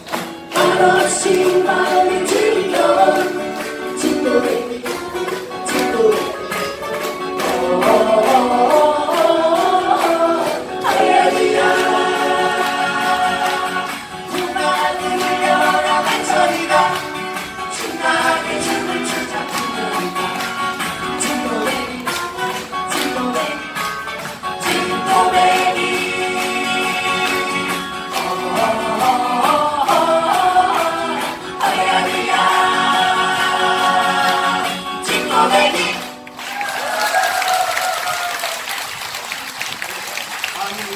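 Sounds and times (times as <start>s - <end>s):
acoustic guitars strumming: 0.0s - 36.4s
group singing in unison: 0.0s - 37.0s.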